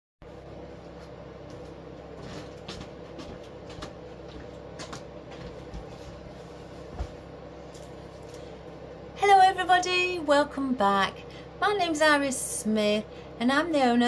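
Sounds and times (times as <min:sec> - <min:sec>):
low room hum: 0:00.2 - 0:14.0.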